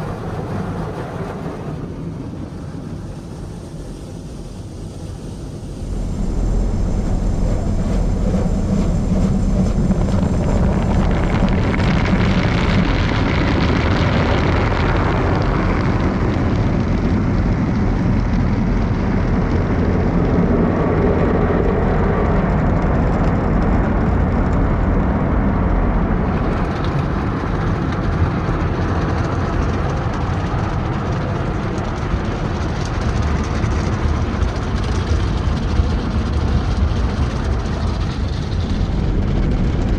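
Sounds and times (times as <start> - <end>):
car wash machinery rushing: 0.0 - 23.6, 25.5 - 39.9.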